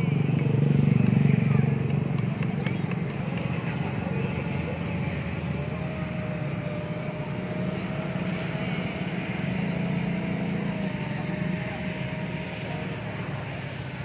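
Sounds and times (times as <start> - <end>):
model boat motor whine: 0.0 - 14.0.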